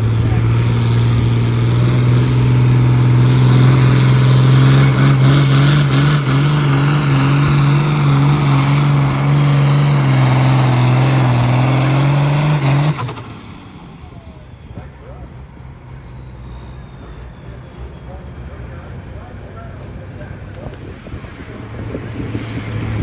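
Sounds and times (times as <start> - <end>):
engine at high revs under load: 0.0 - 23.0.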